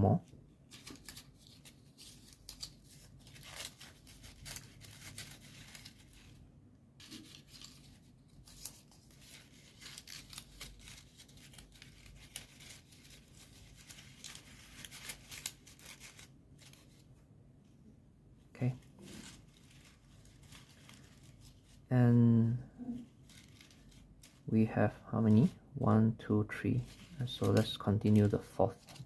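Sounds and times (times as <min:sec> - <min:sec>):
paper rustling and crinkling: 0:00.6 - 0:06.4, 0:07.0 - 0:17.2, 0:18.6 - 0:25.6, 0:26.4 - 0:29.0.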